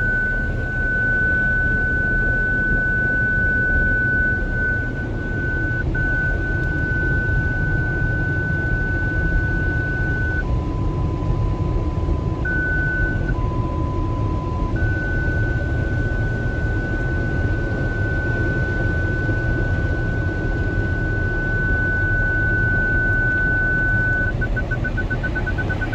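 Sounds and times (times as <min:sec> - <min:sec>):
parking sensor warning tone: 0:00.0 - 0:25.9.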